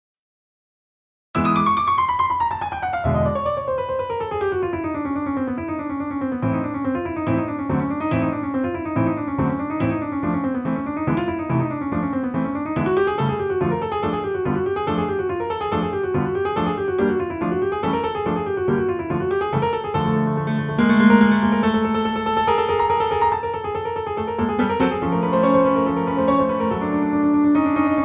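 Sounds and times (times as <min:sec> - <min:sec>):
background piano music: 0:01.4 - 0:28.0.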